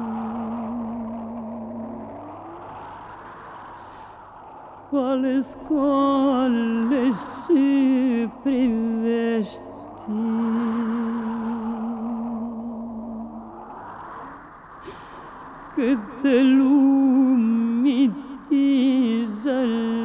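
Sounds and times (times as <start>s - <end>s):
person singing with vibrato: 0.0s - 2.8s, 4.5s - 13.7s, 14.9s - 20.0s
soft rushing sound: 0.0s - 20.0s.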